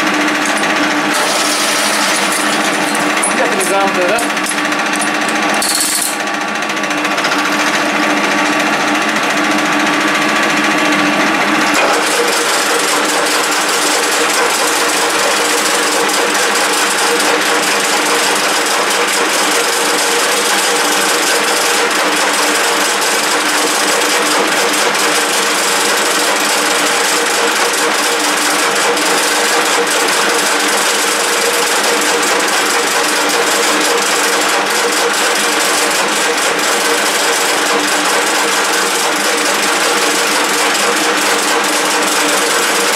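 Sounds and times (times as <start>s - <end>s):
lathe running: 0.0s - 42.9s.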